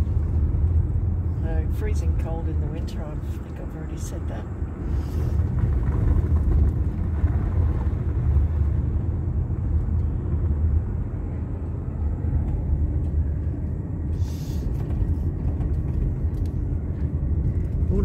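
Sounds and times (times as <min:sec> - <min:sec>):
car driving rumble from inside: 0:00.0 - 0:18.0.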